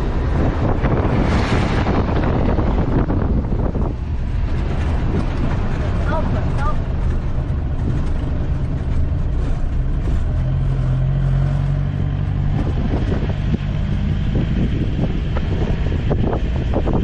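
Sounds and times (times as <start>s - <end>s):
rumbling road noise: 0.0s - 17.0s
truck engine drone: 0.0s - 17.0s.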